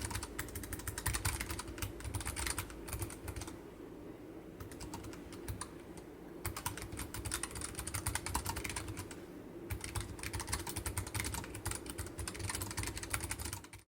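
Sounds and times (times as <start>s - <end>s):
keyboard typing: 0.0s - 3.6s, 4.6s - 13.9s.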